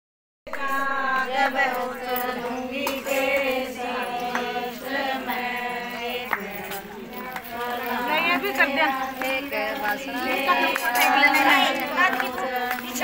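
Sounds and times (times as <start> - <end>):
women singing together: 0.5 - 13.0.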